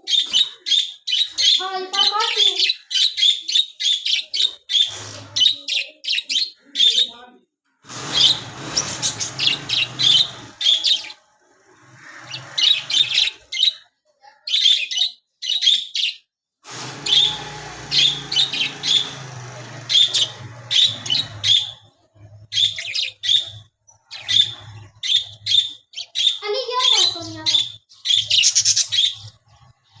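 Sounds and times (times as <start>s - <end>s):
budgerigars chirping: 0.0s - 7.2s, 7.9s - 13.8s, 14.6s - 21.8s, 22.5s - 29.3s.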